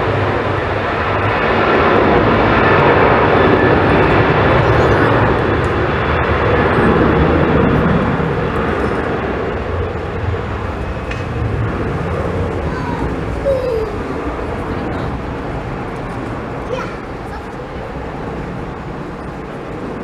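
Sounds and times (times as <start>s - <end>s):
airliner engines passing: 0.0s - 20.0s.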